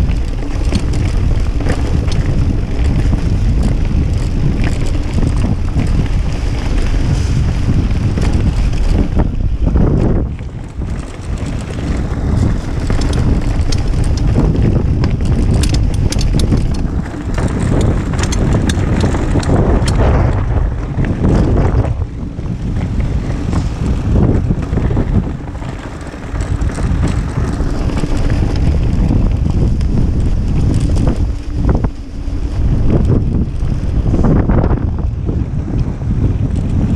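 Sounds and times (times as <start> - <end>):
bike rattling over stones: 0.0 - 36.9
tyres rumbling on dirt trail: 0.0 - 36.9
wind buffeting microphone: 0.0 - 36.9.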